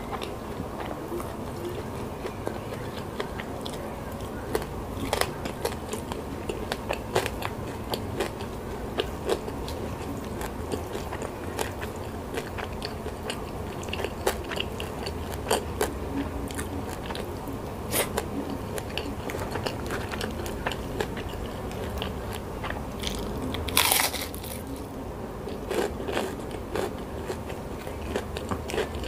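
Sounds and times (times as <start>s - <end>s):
crunchy chewing: 0.0s - 29.0s.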